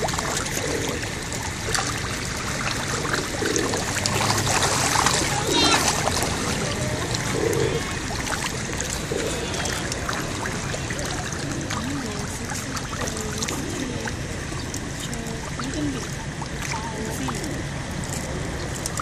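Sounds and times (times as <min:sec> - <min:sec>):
fish splashing at water surface: 0:00.0 - 0:19.0
water lapping: 0:00.0 - 0:19.0.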